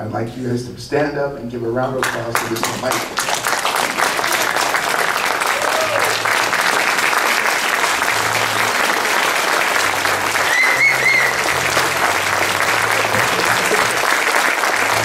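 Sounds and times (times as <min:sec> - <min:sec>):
crowd applauding: 0:02.0 - 0:15.0.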